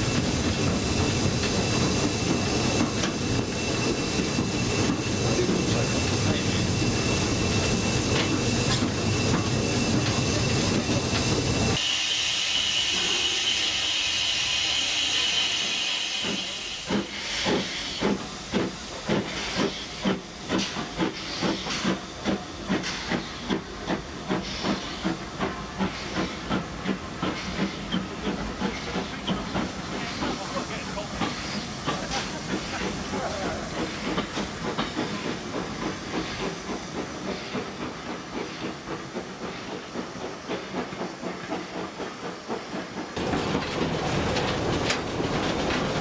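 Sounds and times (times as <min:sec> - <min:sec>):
steam locomotive hissing: 0:00.0 - 0:46.0.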